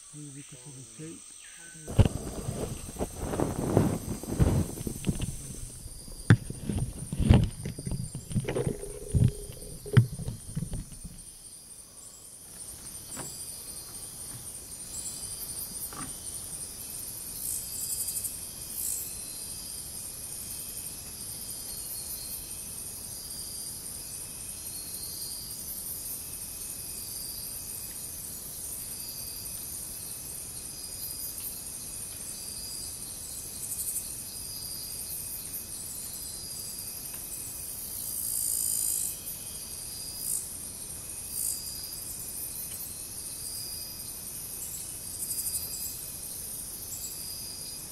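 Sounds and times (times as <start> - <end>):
insect chorus shrilling: 0.0 - 47.9.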